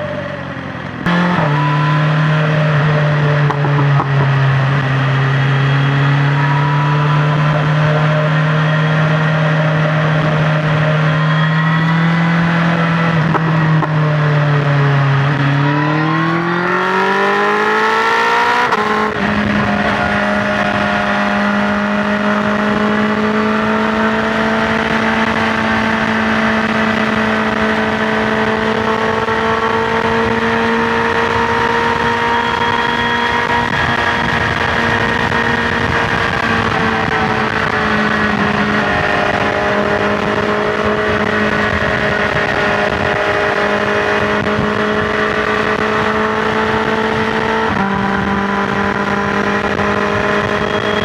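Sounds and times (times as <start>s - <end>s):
motorcycle engine accelerating: 0.0s - 51.0s
wind rush: 9.0s - 51.0s.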